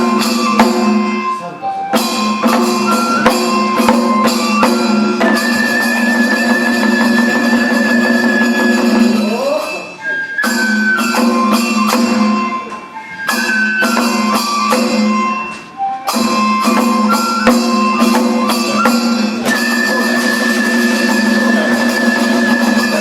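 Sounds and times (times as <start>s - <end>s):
sharp drum strikes: 0.0s - 1.3s, 1.9s - 9.8s, 10.4s - 15.5s, 16.1s - 23.0s
flute melody: 0.0s - 23.0s.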